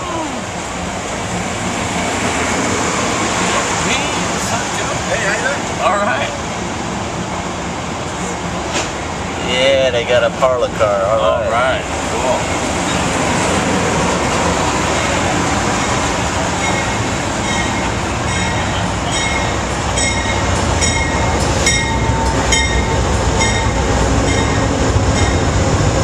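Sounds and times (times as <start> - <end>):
train rumbling into station: 0.0 - 26.0.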